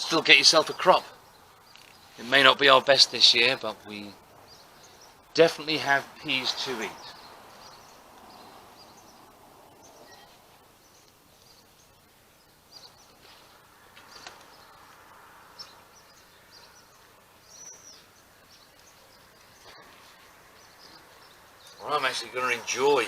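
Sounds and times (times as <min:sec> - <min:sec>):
faint birds chirping: 0:00.0 - 0:23.0
low background hiss: 0:00.0 - 0:23.0.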